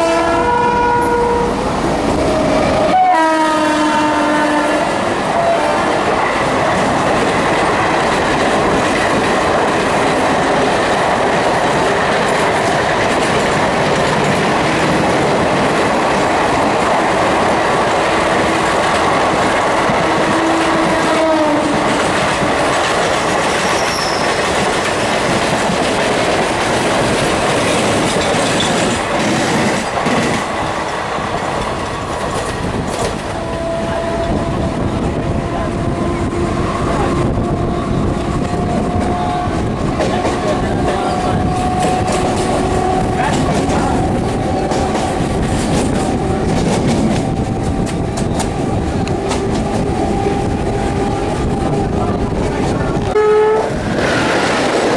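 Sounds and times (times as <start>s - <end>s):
express train passing: 0.0s - 54.9s.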